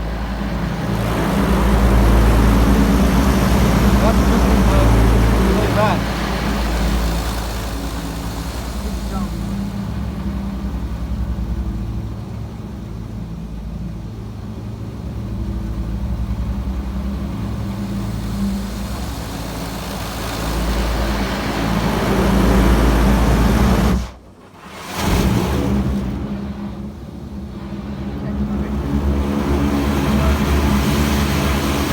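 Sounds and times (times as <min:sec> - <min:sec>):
steady low hum: 0:00.0 - 0:31.9
water jets spraying car: 0:00.0 - 0:31.9.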